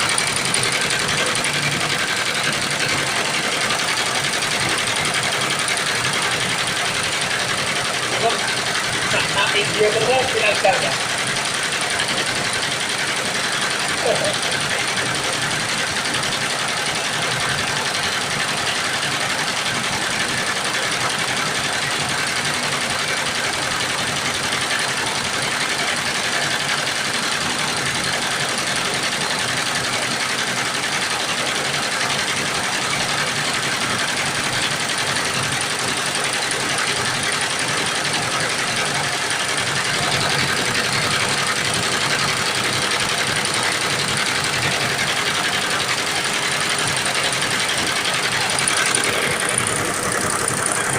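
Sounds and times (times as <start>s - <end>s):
embroidery machine stitching: 0.0s - 50.9s.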